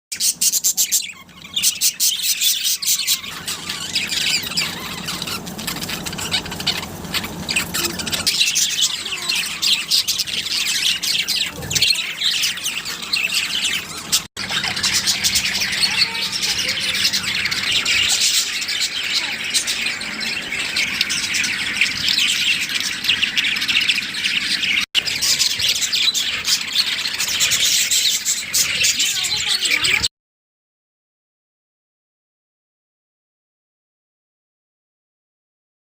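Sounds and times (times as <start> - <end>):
budgerigars chattering: 0.1 - 30.1.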